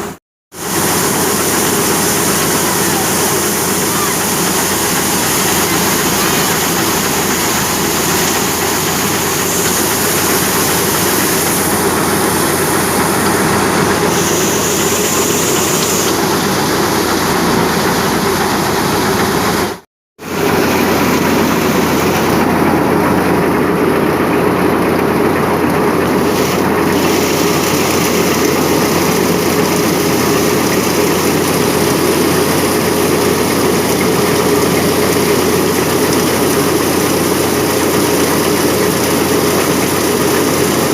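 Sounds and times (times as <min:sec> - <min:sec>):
tractor-driven thresher running: 0:00.0 - 0:40.9.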